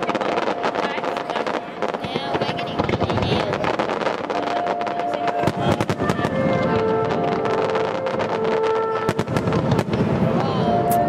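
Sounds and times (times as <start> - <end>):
fireworks bangs and crackles: 0.0 - 11.0
music with long held notes: 0.0 - 11.0.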